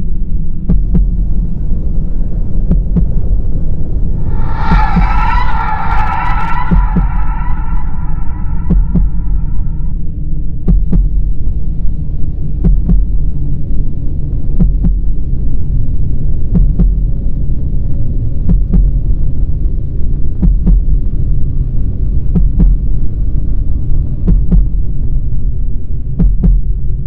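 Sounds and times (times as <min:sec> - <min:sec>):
loud low drone: 0:00.0 - 0:26.4
slow heartbeat thumps: 0:00.4 - 0:27.0.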